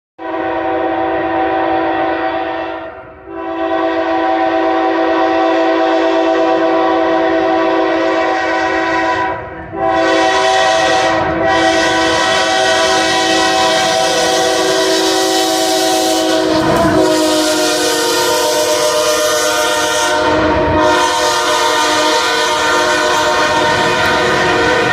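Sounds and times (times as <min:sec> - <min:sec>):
locomotive air horn: 0:00.2 - 0:24.9
low train rumble: 0:00.2 - 0:24.9.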